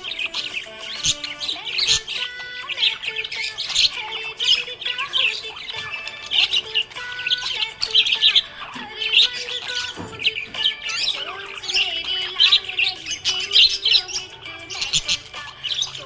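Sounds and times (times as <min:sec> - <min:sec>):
budgerigar chirping and warbling: 0:00.0 - 0:16.0.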